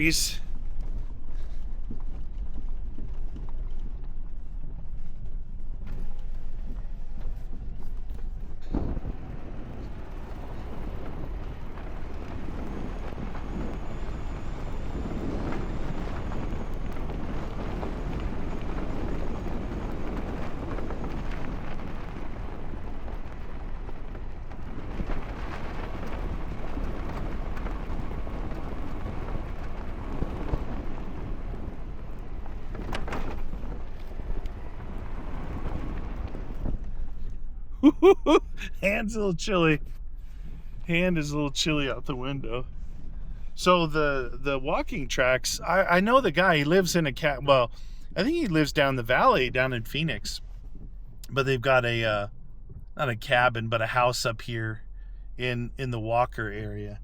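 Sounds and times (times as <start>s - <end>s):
engine and drivetrain rumble: 0.0s - 57.0s.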